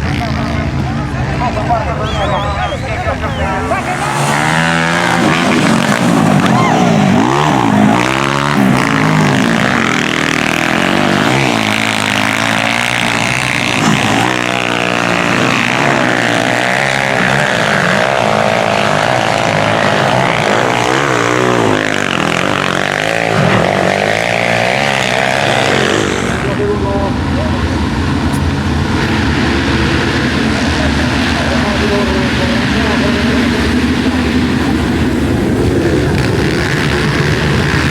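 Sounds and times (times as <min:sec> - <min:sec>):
motocross bike engines revving: 0:00.0 - 0:37.9.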